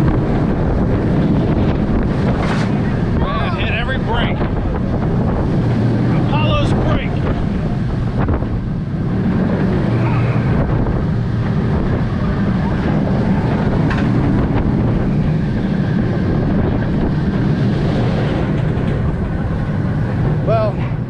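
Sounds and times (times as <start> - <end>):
roller coaster rumbling on track: 0.0 - 21.0
wind buffeting microphone: 0.0 - 21.0.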